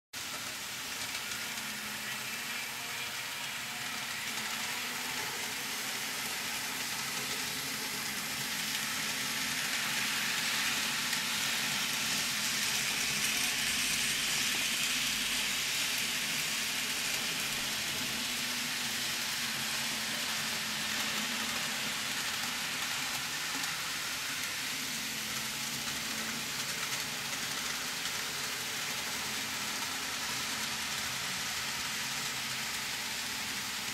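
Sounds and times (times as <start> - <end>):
model train wheels rolling: 0.2 - 33.9.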